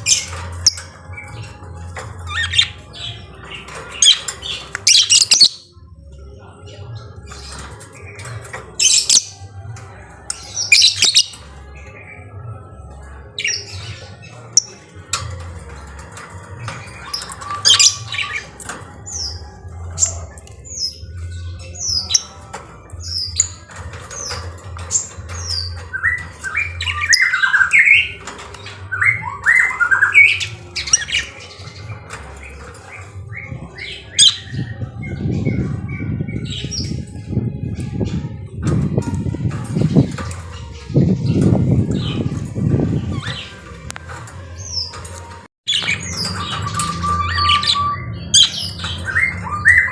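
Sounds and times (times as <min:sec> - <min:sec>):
lovebirds squawking and chirping: 0:00.0 - 0:05.8, 0:06.5 - 0:12.4, 0:13.0 - 0:49.9.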